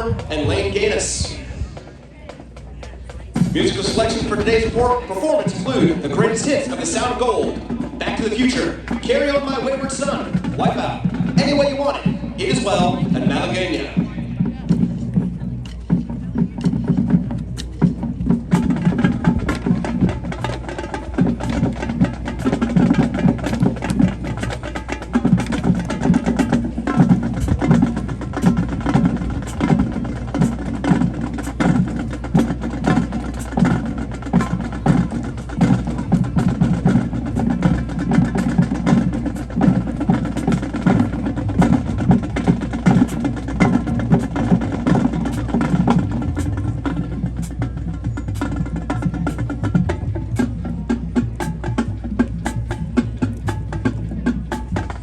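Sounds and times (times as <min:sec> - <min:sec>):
drumline playing quick strokes: 0:00.0 - 0:55.0.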